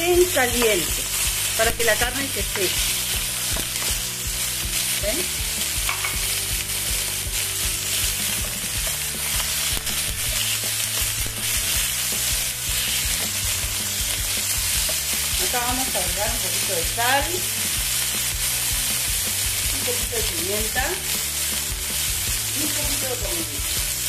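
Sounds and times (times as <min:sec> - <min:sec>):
meat sizzling in hot oil: 0:00.0 - 0:24.0.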